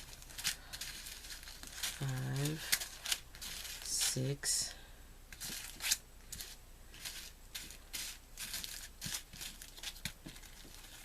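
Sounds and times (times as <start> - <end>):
plastic baggies crinkling: 0.0 - 4.7, 5.3 - 11.0.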